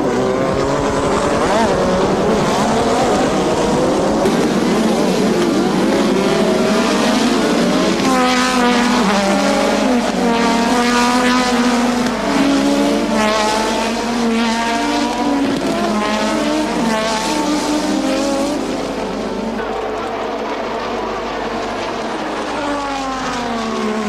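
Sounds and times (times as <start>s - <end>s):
racing car engines accelerating: 0.0s - 24.0s.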